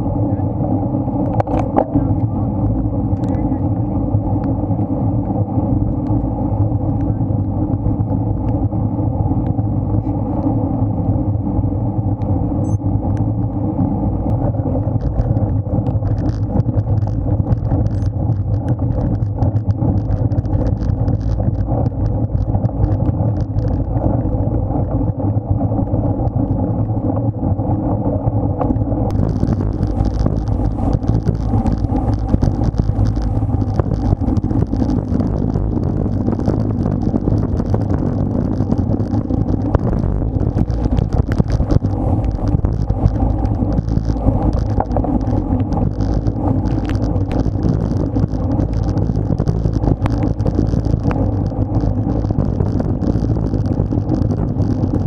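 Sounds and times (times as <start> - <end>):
wind and road noise rumbling: 0.0 - 55.0.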